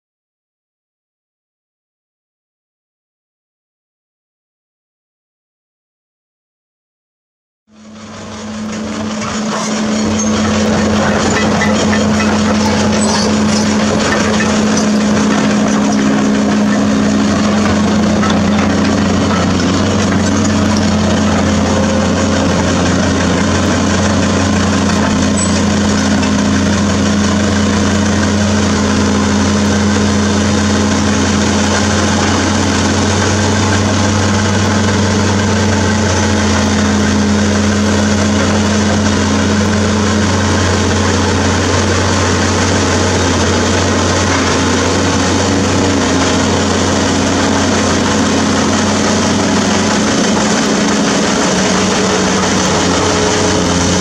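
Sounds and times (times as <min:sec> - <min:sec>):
diesel engine droning: 0:07.7 - 0:54.0.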